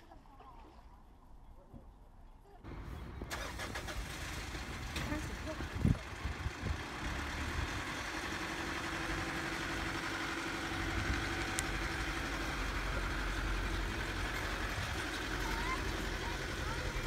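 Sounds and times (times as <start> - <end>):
car engine running at low revs: 2.7 - 17.0.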